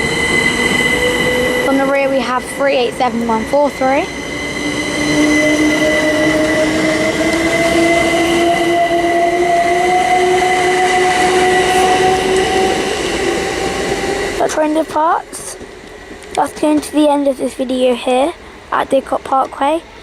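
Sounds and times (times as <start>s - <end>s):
electric train motor whine: 0.0s - 16.4s
wheels rumbling on rails: 0.0s - 20.0s.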